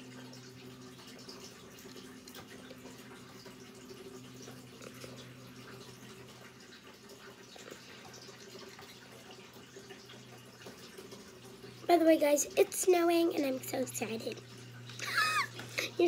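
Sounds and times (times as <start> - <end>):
low steady hum: 0.0 - 16.0
water dripping: 0.0 - 16.0
water trickling: 0.0 - 16.0.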